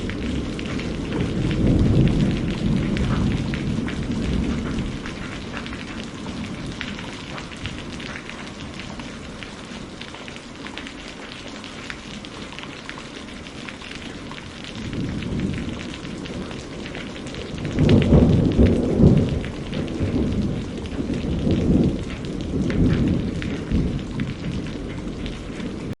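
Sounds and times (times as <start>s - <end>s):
rolling thunder: 0.0s - 9.8s, 14.3s - 26.0s
steady rain: 0.0s - 26.0s.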